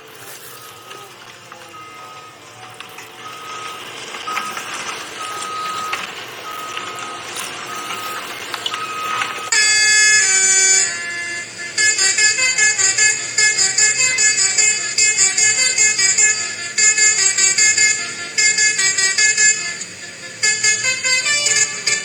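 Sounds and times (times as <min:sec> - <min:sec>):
steady background noise: 0:00.0 - 0:22.0
multi-tone vehicle horn blasts: 0:00.5 - 0:22.0.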